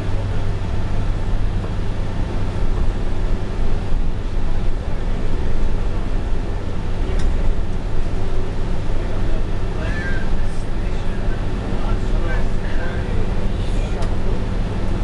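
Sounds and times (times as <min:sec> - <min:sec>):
bus engine drone: 0:00.0 - 0:15.0
road and tyre noise: 0:00.0 - 0:15.0.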